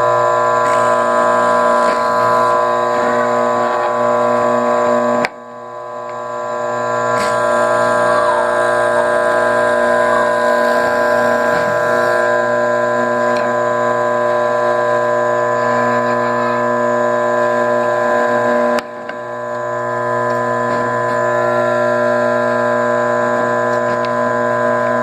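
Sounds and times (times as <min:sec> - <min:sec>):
drill press motor whining: 0:00.0 - 0:25.0.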